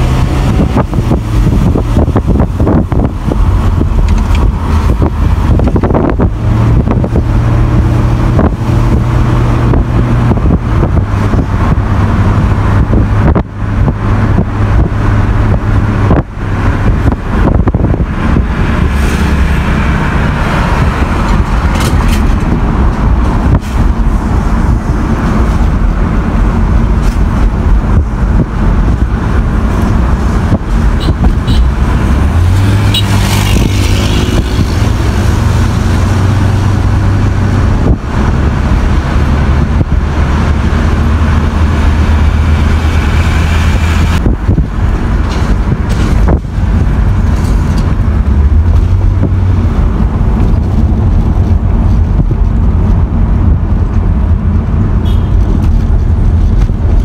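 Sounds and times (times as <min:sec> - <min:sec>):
car engine: 0:00.0 - 0:57.0
road noise: 0:00.0 - 0:57.0.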